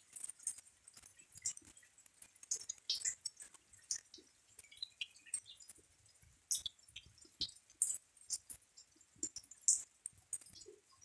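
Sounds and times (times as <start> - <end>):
light rain dripping: 0.0 - 11.0.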